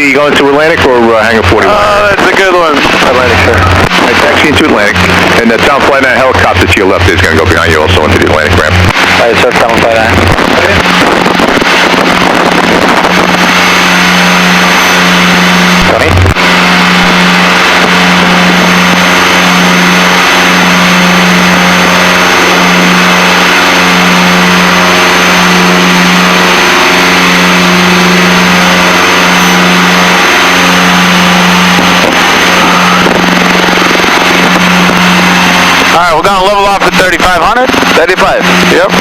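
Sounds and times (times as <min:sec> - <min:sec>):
propeller engines droning: 0:00.0 - 0:39.0.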